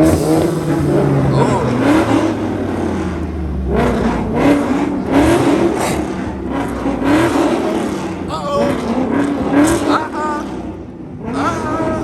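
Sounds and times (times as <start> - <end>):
low engine rumble: 0.0 - 11.2
car engines revving: 0.0 - 12.0.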